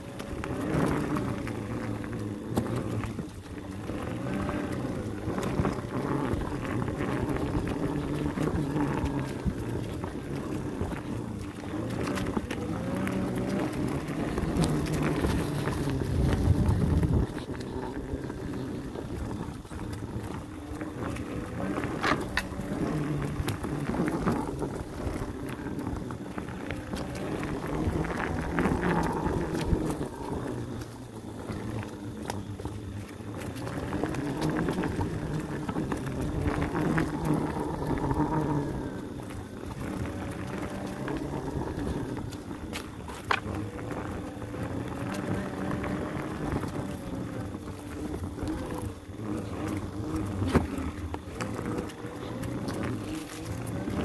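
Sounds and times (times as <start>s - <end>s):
trail bike motor droning: 0.0s - 54.0s
wind rushing on microphone: 0.0s - 54.0s.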